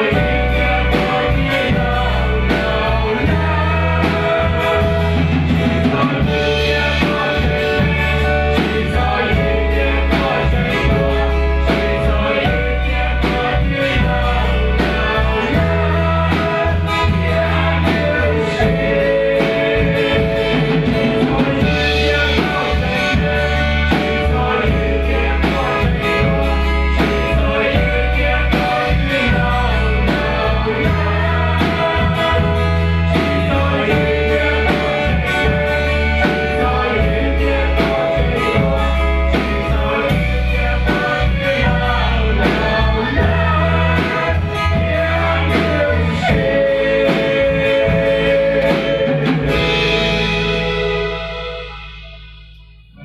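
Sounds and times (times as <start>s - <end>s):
group singing worship song: 0.0s - 51.7s
amplified backing music: 0.0s - 53.0s.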